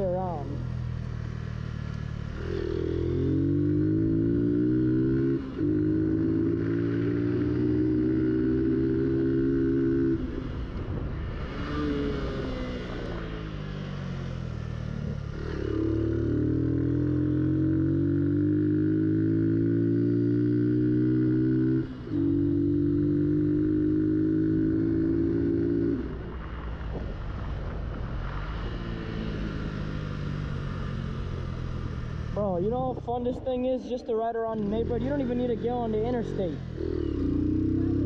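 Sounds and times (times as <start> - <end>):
motorcycle engine revving: 0.0 - 33.5, 34.5 - 38.0.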